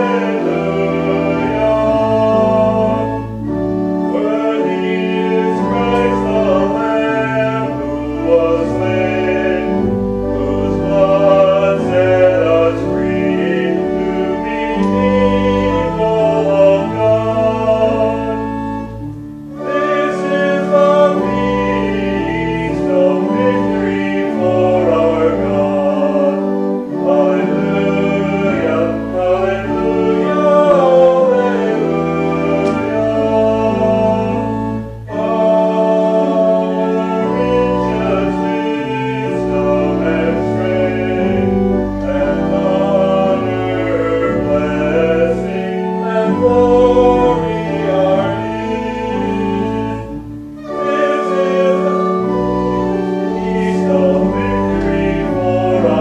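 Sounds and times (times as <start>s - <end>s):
organ playing sustained chords: 0.0s - 56.0s
voices singing a hymn: 0.0s - 56.0s.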